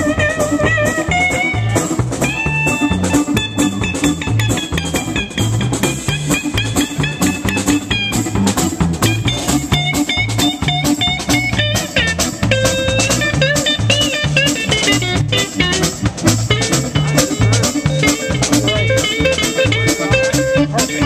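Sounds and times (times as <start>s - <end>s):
bass line: 0.0s - 21.0s
drums steady beat: 0.0s - 21.0s
lead guitar bent notes: 0.0s - 21.0s
live blues band: 0.0s - 21.0s.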